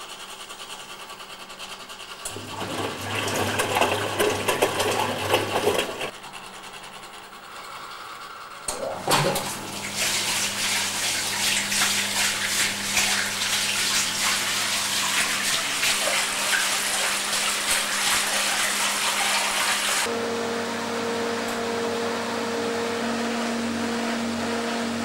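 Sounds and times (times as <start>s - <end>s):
steady motor hum: 0.0s - 25.0s
water rushing into washing machine: 1.4s - 6.2s, 8.6s - 25.0s.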